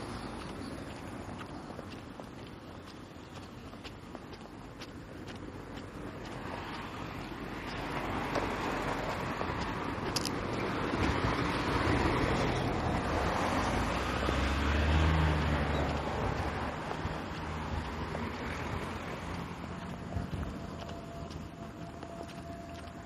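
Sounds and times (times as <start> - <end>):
low engine hum: 0.0 - 23.0
road traffic: 0.0 - 23.0.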